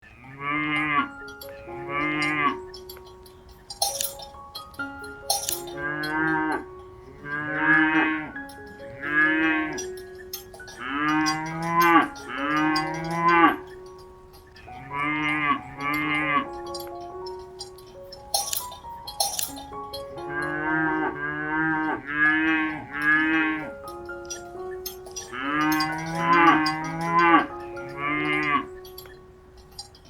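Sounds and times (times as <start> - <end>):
cow mooing: 0.1 - 3.1, 5.3 - 18.6, 20.0 - 29.1
steady ringing tones: 0.4 - 30.0.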